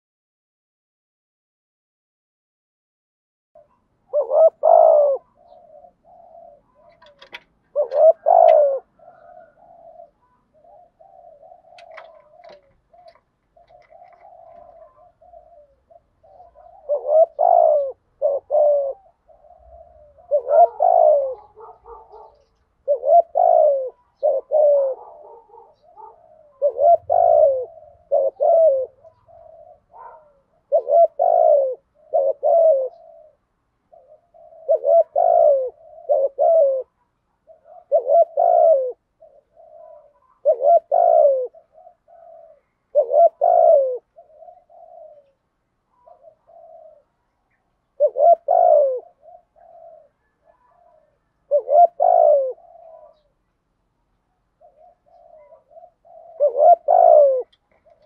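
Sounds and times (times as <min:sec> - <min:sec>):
dove cooing: 0:03.6 - 0:53.5, 0:54.3 - 0:58.0.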